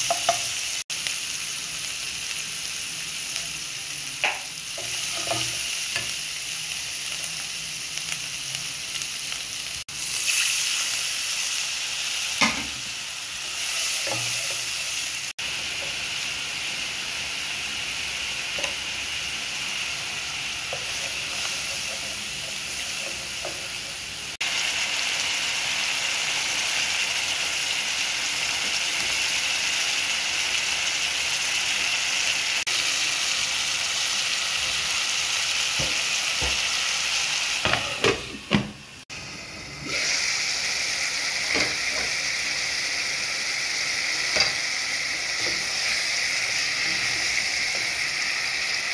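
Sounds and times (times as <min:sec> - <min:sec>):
masala sizzling in oil: 0:00.0 - 0:48.9.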